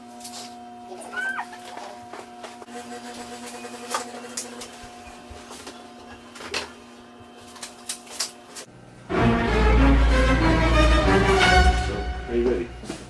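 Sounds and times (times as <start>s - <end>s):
machine hum: 0.1s - 13.0s.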